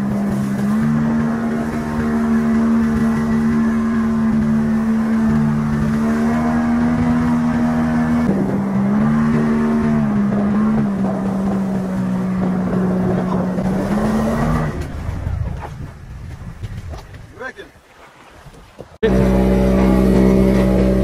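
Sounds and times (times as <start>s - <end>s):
outboard motor running: 0.0s - 17.2s, 19.0s - 21.0s.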